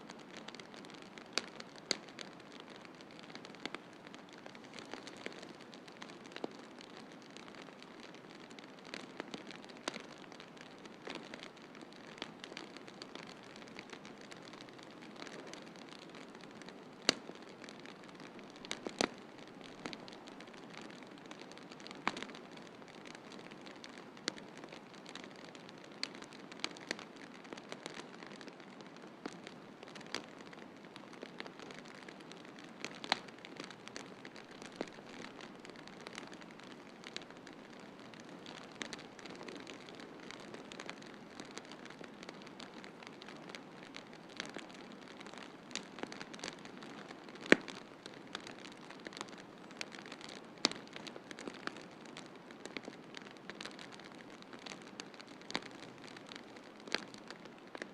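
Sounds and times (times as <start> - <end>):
wood fire crackling: 0.0 - 57.9
fire popping: 0.1 - 57.9.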